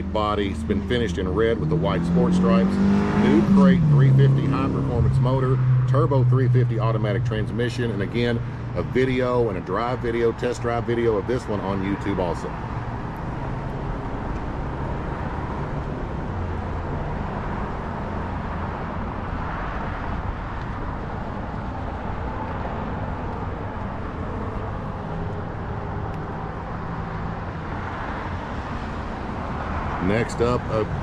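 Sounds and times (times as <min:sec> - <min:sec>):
road traffic engine hum: 0:00.0 - 0:31.0.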